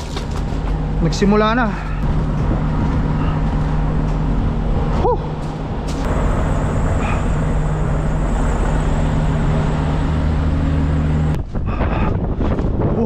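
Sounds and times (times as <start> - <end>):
engine idling: 0.0 - 11.8
wind buffeting microphone: 2.0 - 13.0.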